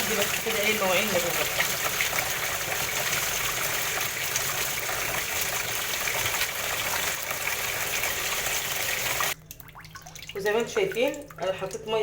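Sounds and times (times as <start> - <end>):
tap water running into tub: 0.0 - 12.0.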